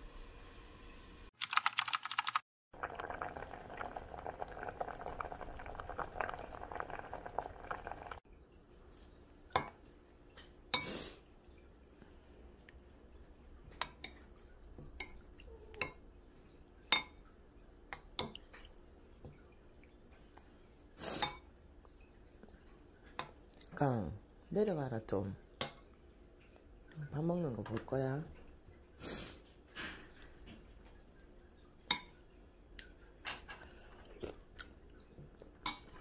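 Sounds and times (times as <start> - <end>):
water boiling in a pot: 2.7 - 36.0.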